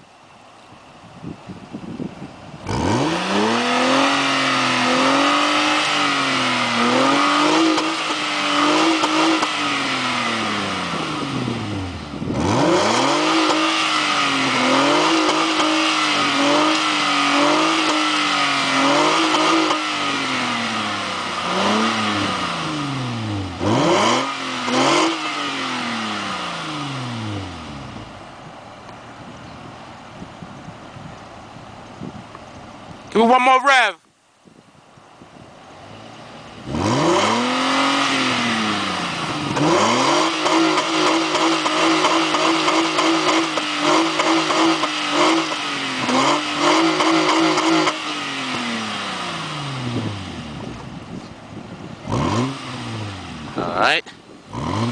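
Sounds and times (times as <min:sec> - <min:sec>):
car engine revving: 0:02.6 - 0:29.2, 0:35.8 - 0:54.9.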